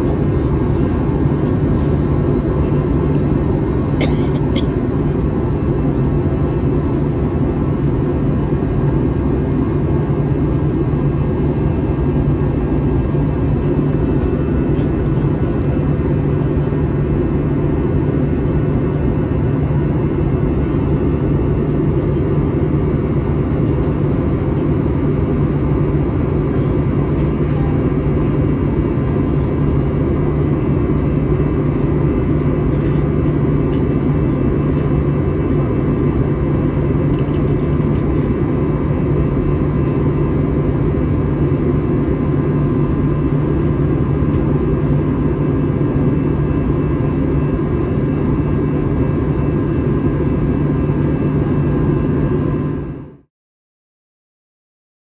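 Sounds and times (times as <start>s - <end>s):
airliner cabin drone: 0.0s - 53.3s.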